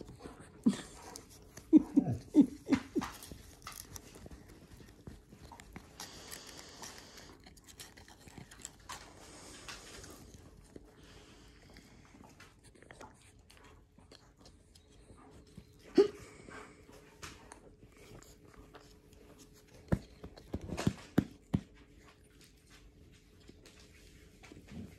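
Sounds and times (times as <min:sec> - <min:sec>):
soft rustling of dogs moving: 0:00.0 - 0:24.9.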